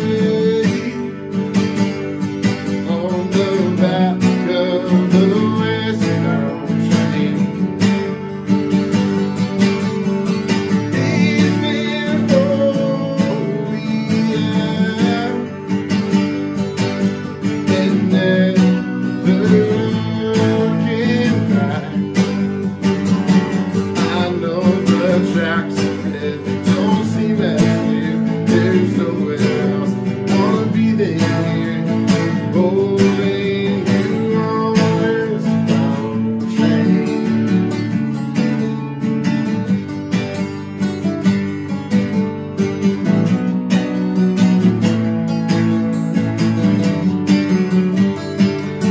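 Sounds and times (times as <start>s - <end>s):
picked guitar melody: 0.0s - 48.9s
strummed acoustic guitar chords: 0.0s - 48.9s.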